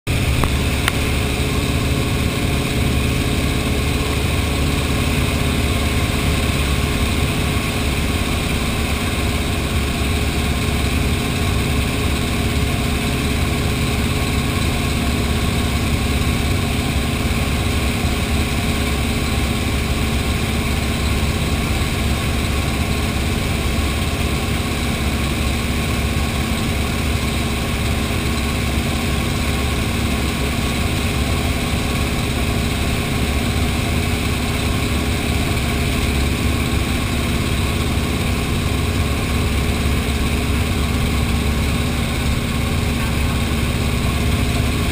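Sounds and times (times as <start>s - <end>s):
propeller plane engine drone: 0.1s - 44.9s.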